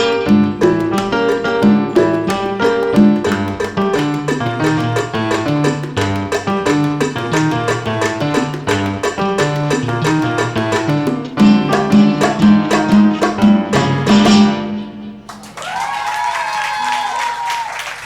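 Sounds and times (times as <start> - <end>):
salsa band playing: 0.0 - 15.9
percussion: 0.0 - 18.0.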